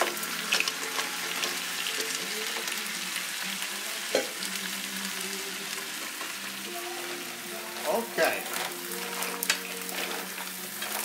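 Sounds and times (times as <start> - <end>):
mussels sizzling in hot oil: 0.0 - 11.0.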